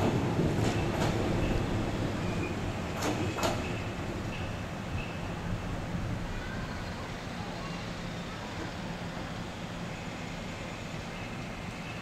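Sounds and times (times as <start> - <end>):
electric train rolling in hum: 0.0 - 12.0.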